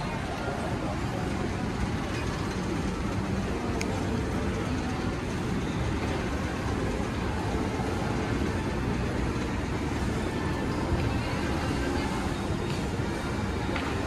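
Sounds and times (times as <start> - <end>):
shopping mall background noise: 0.0 - 14.0.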